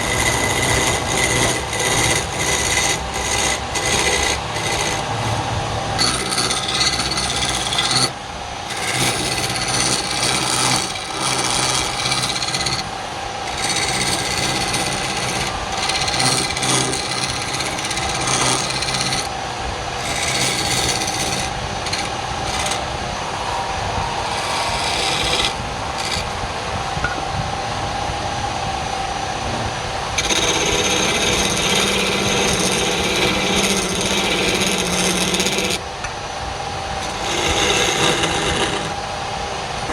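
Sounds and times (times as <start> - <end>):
tool rasping on spinning wood: 0.0 - 26.4, 30.1 - 35.9, 37.0 - 39.9
wood lathe motor hum: 0.0 - 26.4, 30.1 - 36.2, 36.8 - 39.9.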